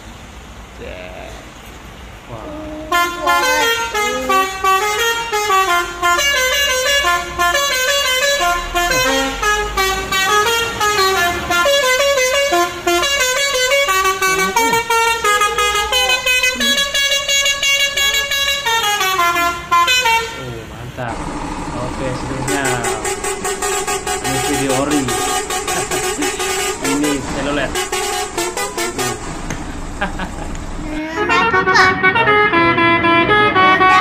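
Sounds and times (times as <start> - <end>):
musical air horn playing a tune: 2.8 - 20.4, 22.5 - 29.4, 31.1 - 34.0.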